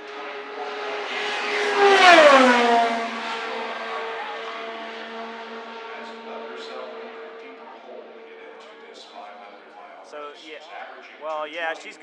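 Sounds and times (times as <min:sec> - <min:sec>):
racing car engine passing by: 0:00.0 - 0:10.1.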